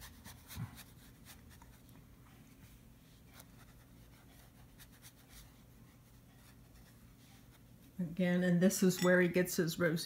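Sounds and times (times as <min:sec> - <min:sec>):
paintbrush strokes on paper: 0:00.0 - 0:08.1
low steady hum: 0:00.0 - 0:10.0.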